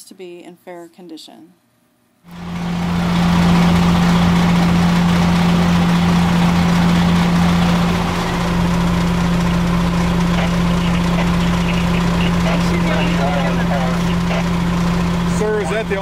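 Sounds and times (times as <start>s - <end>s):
fire engine idling: 2.3s - 16.0s.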